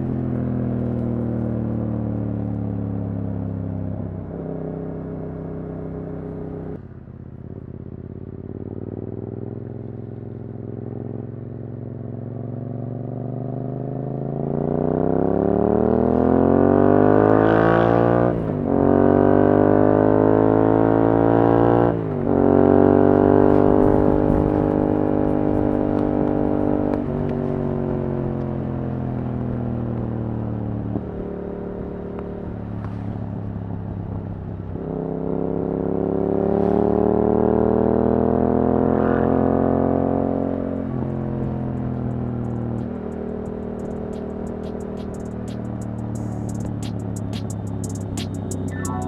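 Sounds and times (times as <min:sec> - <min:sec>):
motorcycle engine accelerating hard: 0:00.0 - 0:49.0.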